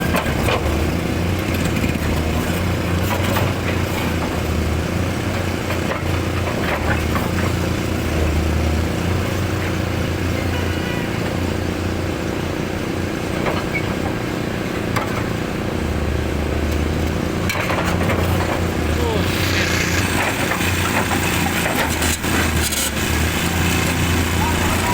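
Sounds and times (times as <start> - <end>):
excavator diesel engine droning: 0.0 - 24.9.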